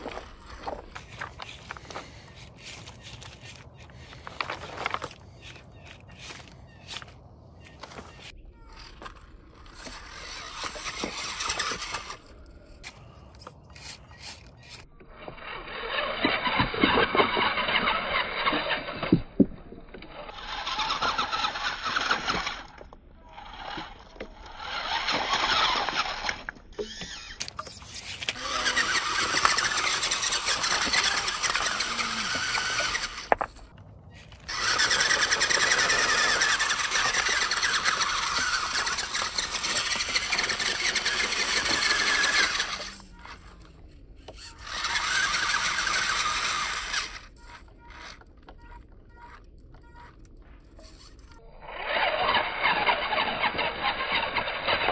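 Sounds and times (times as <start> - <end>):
wheels knocking on rocks: 0.0 - 14.9, 16.4 - 51.2
toy car electric motors whirring: 0.0 - 19.2, 20.0 - 54.9.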